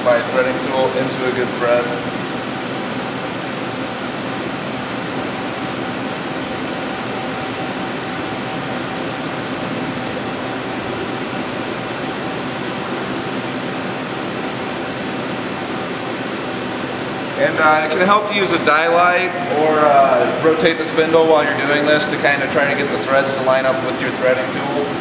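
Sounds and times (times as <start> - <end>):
machinery hum and hiss: 0.0 - 25.0.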